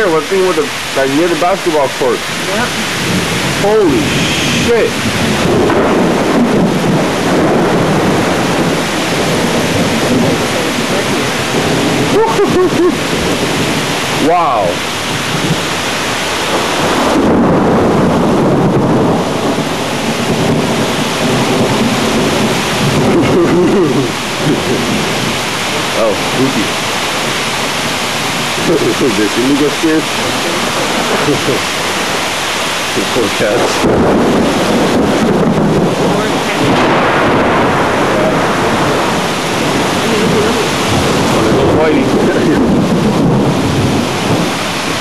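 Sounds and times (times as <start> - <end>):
heavy rain: 0.0 - 45.0
thunder rumbling: 0.0 - 45.0.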